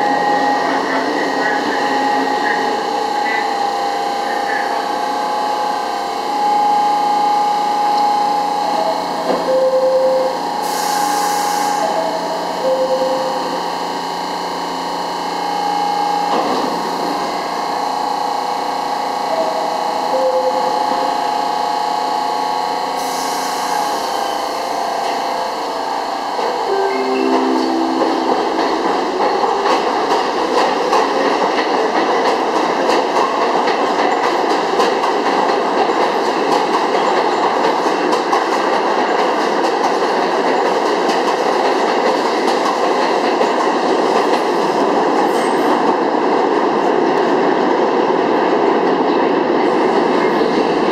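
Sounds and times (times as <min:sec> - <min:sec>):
train wheels rumbling on rail: 0:07.2 - 0:50.9.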